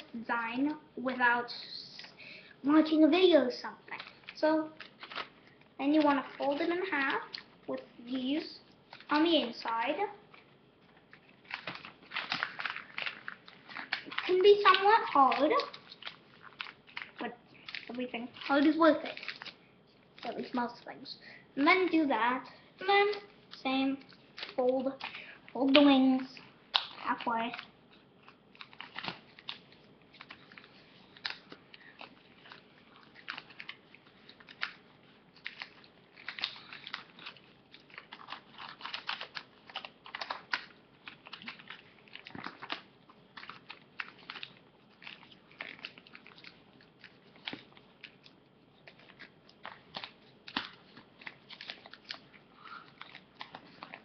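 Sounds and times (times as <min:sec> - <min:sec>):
paper crinkling and rustling: 0:03.9 - 0:20.9, 0:21.6 - 0:54.0.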